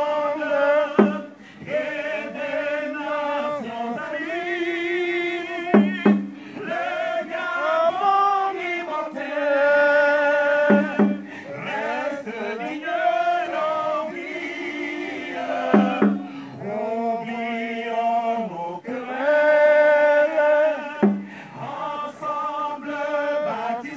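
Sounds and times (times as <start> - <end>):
man singing into microphone: 0.0 - 14.2, 15.2 - 23.9
crowd singing along: 0.0 - 23.9.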